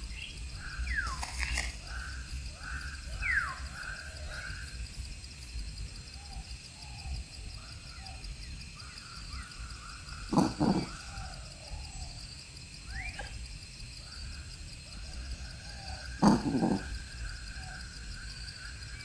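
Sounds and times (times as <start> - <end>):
frogs calling: 0.0 - 5.1, 6.1 - 19.0
insects trilling: 0.0 - 19.0.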